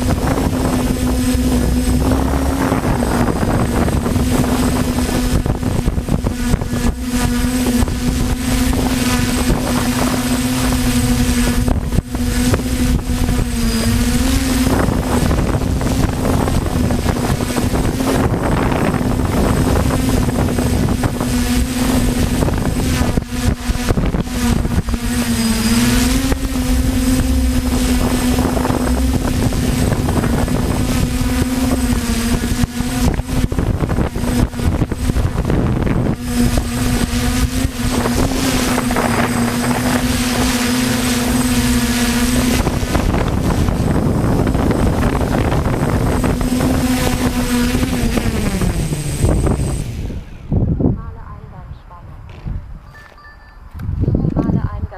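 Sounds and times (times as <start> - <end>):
wind buffeting microphone: 0.0 - 52.9, 53.7 - 54.9
quadcopter motors humming: 0.0 - 54.9.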